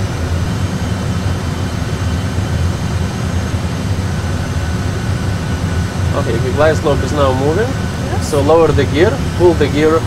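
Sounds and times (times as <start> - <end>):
aircraft cockpit engine rumble: 0.0 - 10.0.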